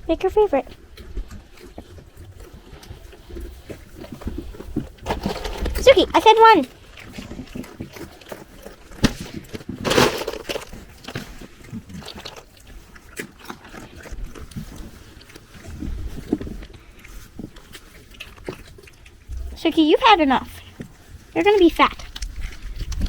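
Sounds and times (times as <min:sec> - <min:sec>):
goats chewing peanuts: 0:00.2 - 0:23.0.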